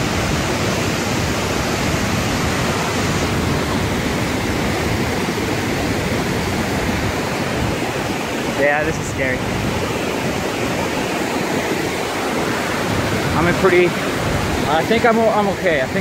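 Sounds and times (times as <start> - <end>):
floodwater roaring: 0.0 - 16.0.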